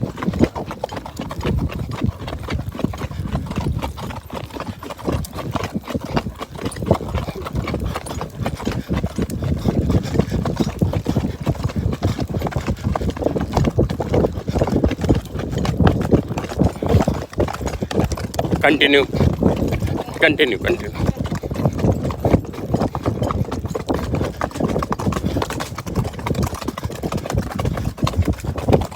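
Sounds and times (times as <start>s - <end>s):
horse hooves clip-clopping: 0.0s - 28.9s.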